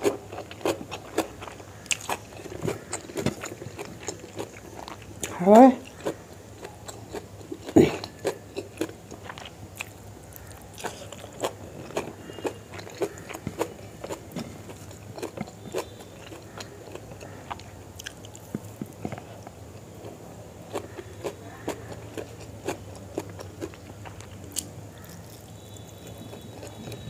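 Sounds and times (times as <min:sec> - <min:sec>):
chewing and biting food: 0:00.0 - 0:27.0.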